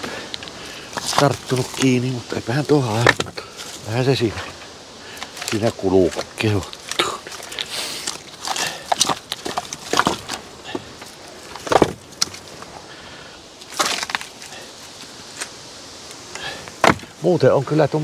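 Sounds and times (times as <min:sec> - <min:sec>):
firewood logs clunking: 0:00.0 - 0:12.9, 0:13.6 - 0:17.4.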